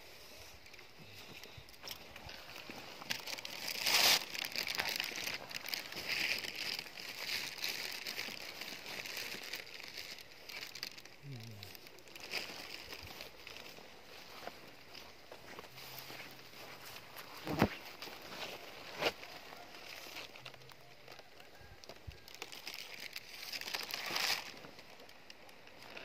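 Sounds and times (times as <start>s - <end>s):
dry grass rustling and crackling: 0.4s - 26.0s.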